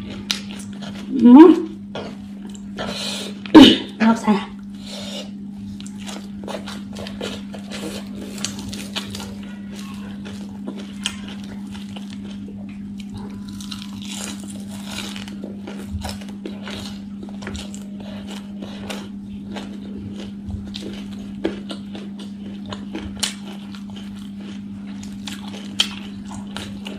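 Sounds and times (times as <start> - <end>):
crunchy chewing: 0.0 - 1.2, 4.6 - 26.9
steady hum: 0.0 - 26.9.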